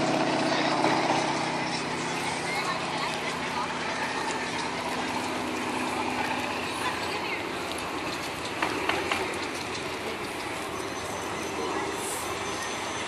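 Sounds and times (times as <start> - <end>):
large crowd din: 0.0 - 13.0
murmur of voices: 0.0 - 13.0.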